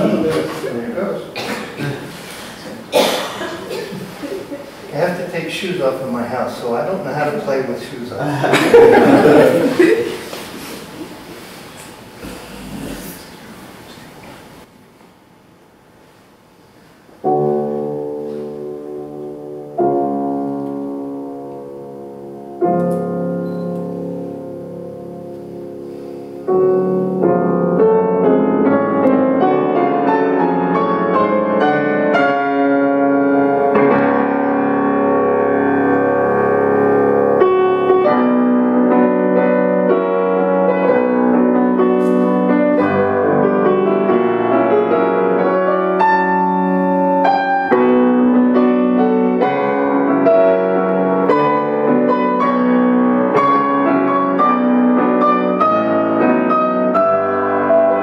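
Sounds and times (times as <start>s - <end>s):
grand piano classical piece: 0.0s - 14.7s, 15.7s - 58.0s.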